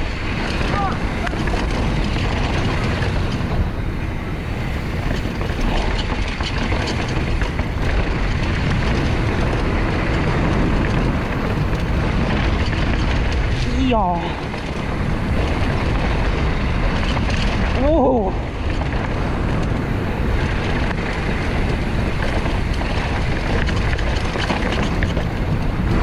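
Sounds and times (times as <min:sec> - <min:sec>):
bike rattles and clicks: 0:00.0 - 0:26.0
bike tyres on rock: 0:00.0 - 0:26.0
wind on microphone: 0:00.0 - 0:26.0.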